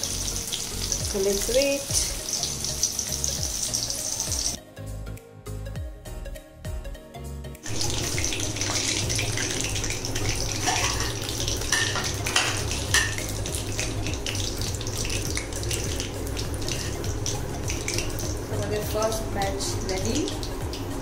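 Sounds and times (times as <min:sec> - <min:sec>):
chicken deep-frying in oil: 0:00.0 - 0:04.6, 0:07.7 - 0:21.0.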